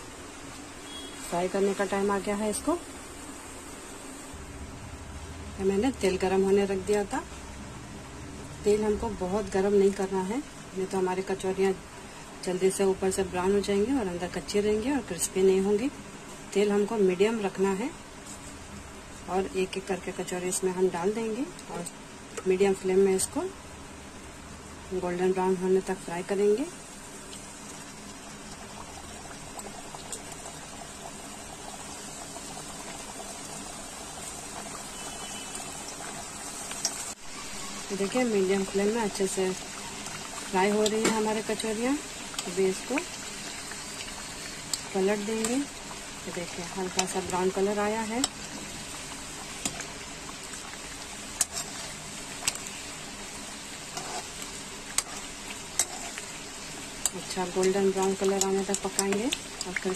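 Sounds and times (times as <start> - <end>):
oil sizzling while deep-frying: 0.0 - 59.9.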